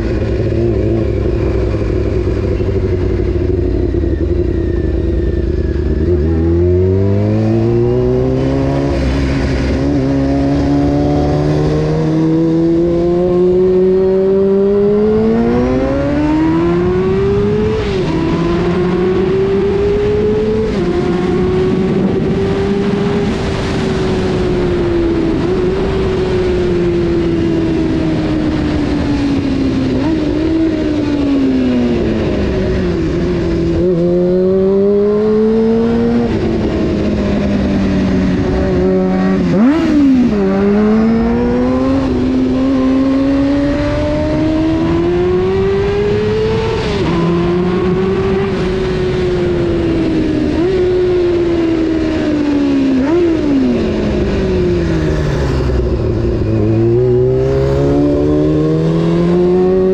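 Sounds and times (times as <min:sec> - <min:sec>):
motorcycle engine shifting gears: 0:00.0 - 0:59.9
wind and road noise: 0:00.0 - 0:59.9.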